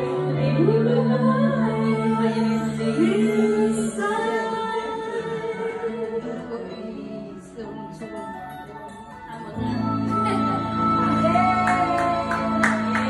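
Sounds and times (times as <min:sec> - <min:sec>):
karaoke backing track: 0:00.0 - 0:13.0.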